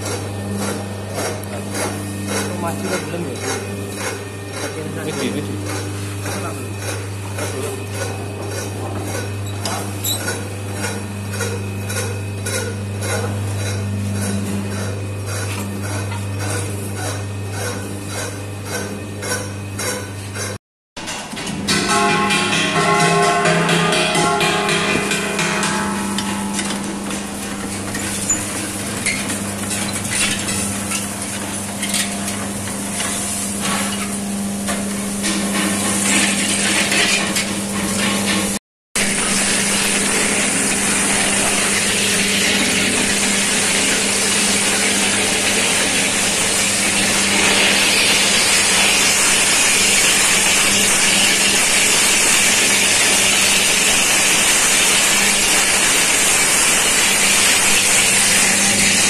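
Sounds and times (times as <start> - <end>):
roasting machine humming: 0.0 - 59.0.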